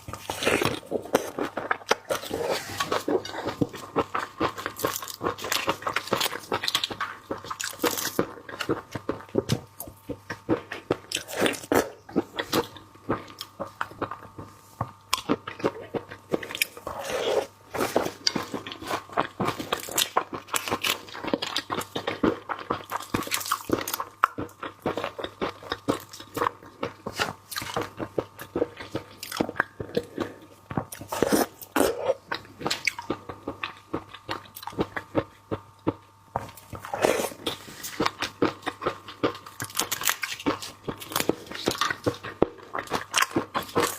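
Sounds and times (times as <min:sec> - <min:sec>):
chewing and crunching prawns: 0:00.0 - 0:43.9.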